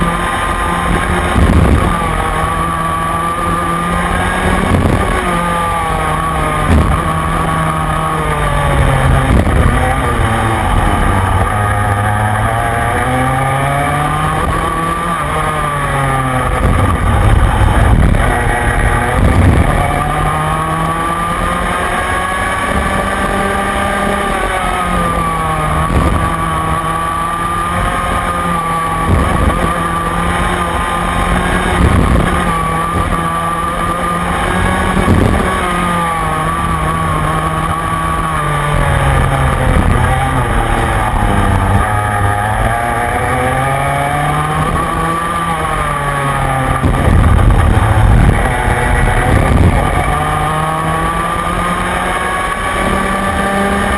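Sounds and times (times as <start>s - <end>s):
kart engine accelerating: 0.0s - 53.9s.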